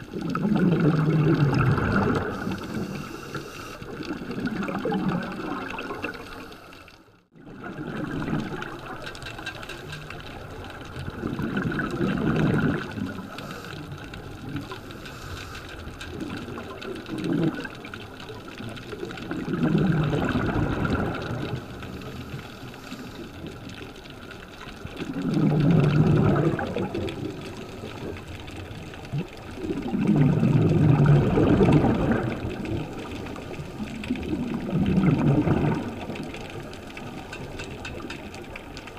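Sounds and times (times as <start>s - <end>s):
underwater exhaust bubbles: 0.0s - 38.9s.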